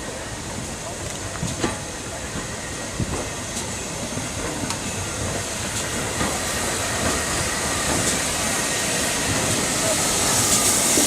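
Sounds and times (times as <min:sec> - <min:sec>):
steam train rumble and hiss: 0:00.0 - 0:11.0.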